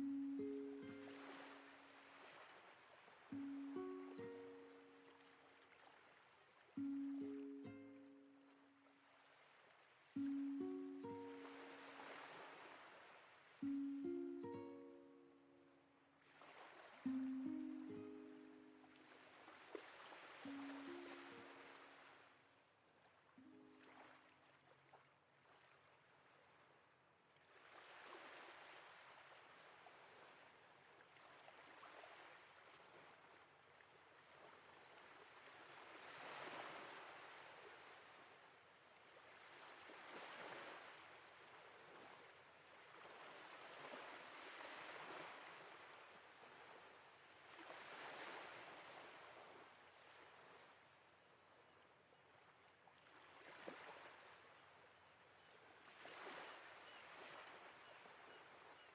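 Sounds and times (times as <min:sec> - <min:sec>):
faint sea waves washing in: 0:00.0 - 0:58.9.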